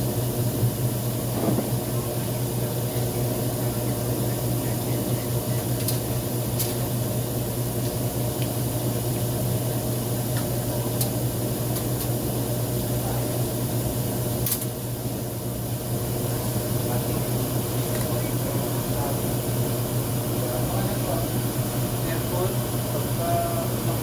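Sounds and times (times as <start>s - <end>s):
electric blower fan humming: 0.0s - 24.0s.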